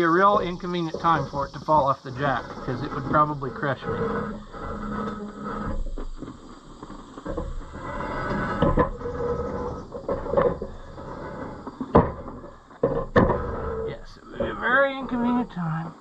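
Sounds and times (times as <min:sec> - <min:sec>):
metal scraping: 0:00.0 - 0:15.5.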